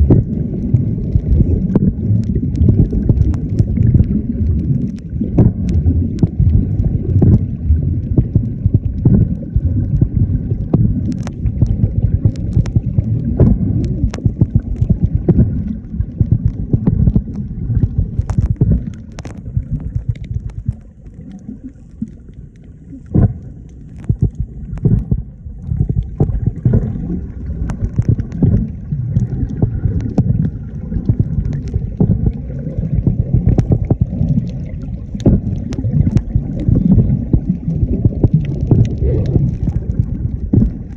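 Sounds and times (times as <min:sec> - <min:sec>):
churning water rumble: 0:00.0 - 0:40.9.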